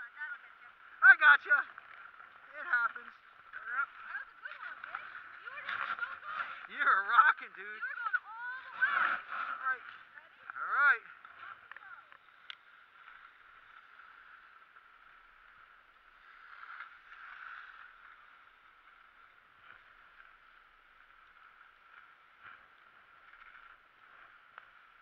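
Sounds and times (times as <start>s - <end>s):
skis sliding over snow: 0.0s - 25.0s.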